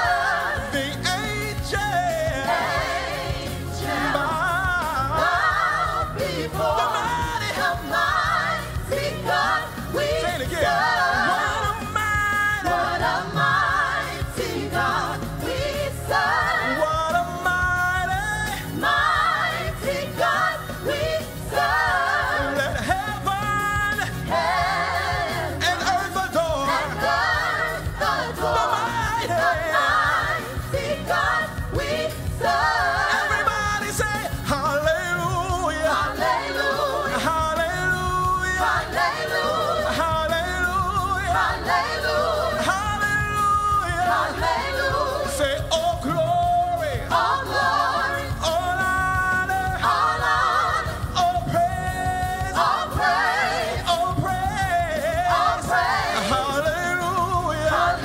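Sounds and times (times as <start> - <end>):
backing vocalists singing: 0.0 - 58.0.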